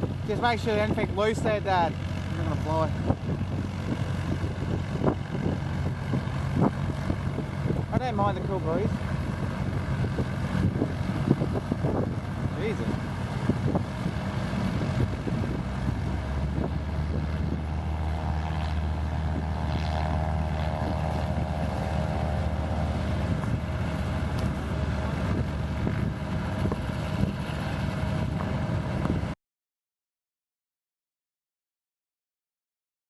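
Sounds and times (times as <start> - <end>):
aircraft engine running: 0.0 - 29.4
wind buffeting microphone: 0.0 - 29.4.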